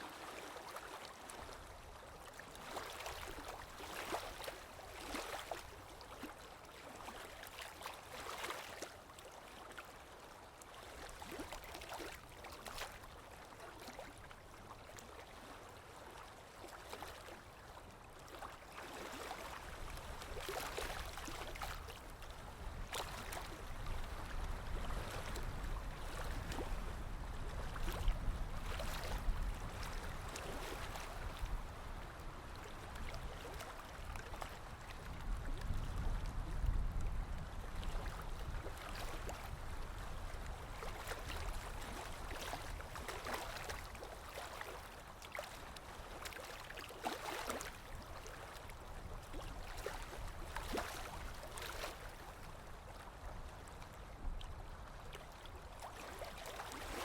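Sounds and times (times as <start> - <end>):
sea waves lapping and splashing: 0.0 - 57.0.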